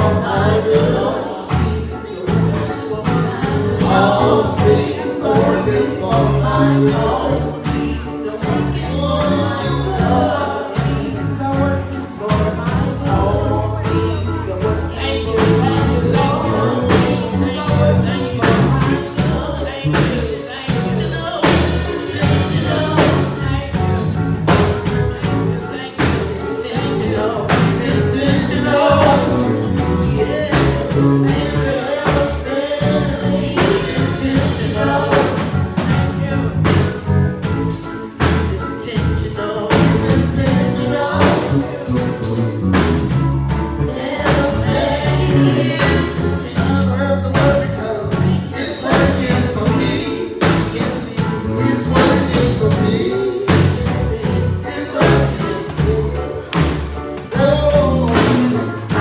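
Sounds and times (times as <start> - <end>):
gospel singing with band: 0.0 - 59.0.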